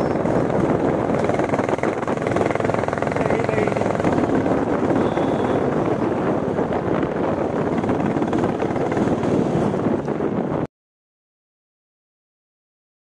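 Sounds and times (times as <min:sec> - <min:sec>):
motorcycle engine running: 0:00.0 - 0:10.6
wind buffeting microphone: 0:00.0 - 0:10.7.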